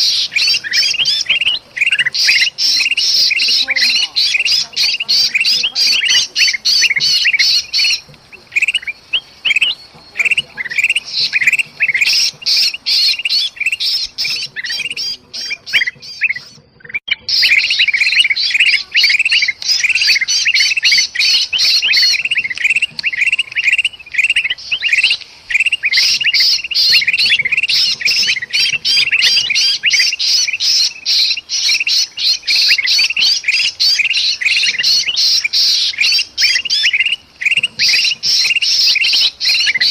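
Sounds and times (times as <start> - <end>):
bird distress calls: 0.0 - 39.9
birds chattering in alarm: 0.0 - 39.9.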